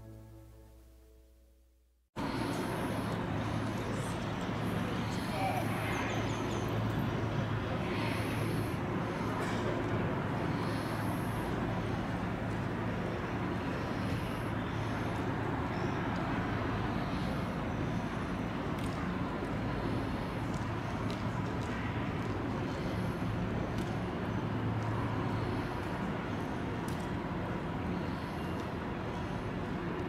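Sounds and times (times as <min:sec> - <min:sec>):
constant low hum: 0:02.2 - 0:30.0
distant road traffic: 0:02.2 - 0:30.0.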